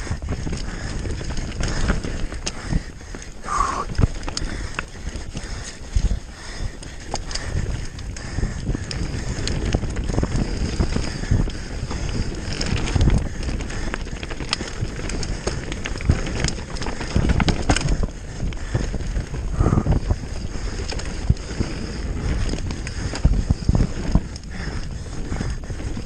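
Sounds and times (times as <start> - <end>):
bike clacking and rattling: 0.0 - 26.0
bike tyres rumbling over dirt: 0.0 - 26.0
wind buffeting microphone: 0.0 - 26.0.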